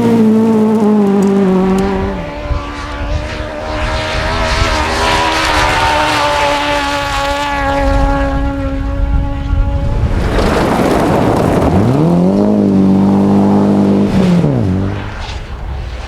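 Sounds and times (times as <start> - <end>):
rally car engine running hard: 0.0 - 16.0
tyre and road noise: 0.0 - 16.0.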